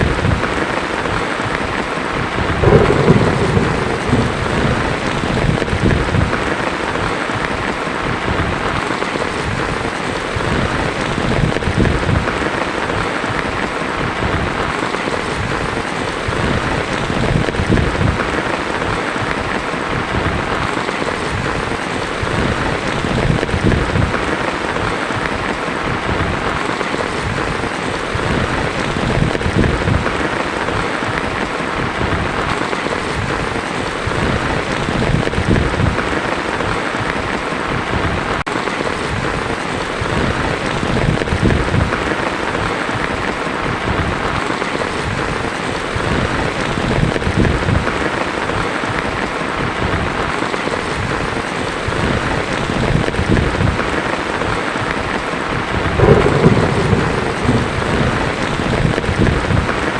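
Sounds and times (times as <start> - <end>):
thunder rumbling: 0.0 - 48.0, 55.6 - 59.9
heavy rain on a tin roof: 0.0 - 59.9.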